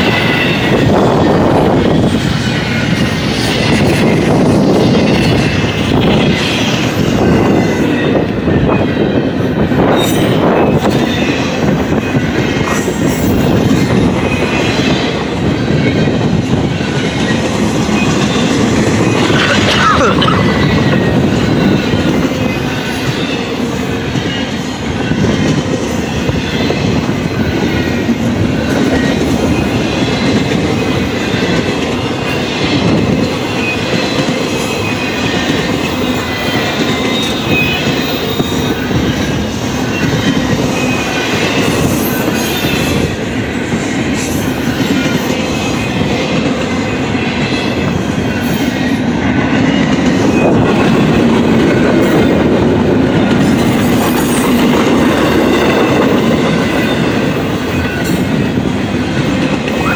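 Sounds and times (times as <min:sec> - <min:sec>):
freight train cars rumbling: 0:00.0 - 0:59.9
train wheel clatter: 0:00.0 - 0:59.9.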